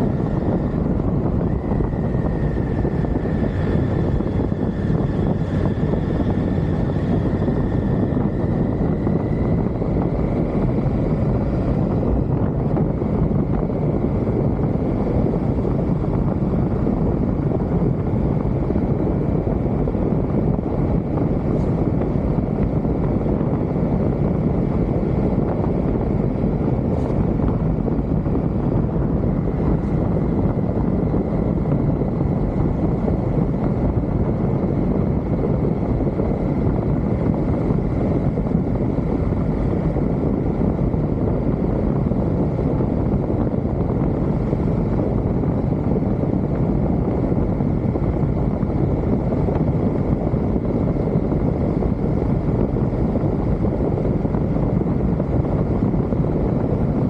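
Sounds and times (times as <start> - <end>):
motorcycle engine running: 0.0 - 57.0
wind on microphone: 0.0 - 57.0.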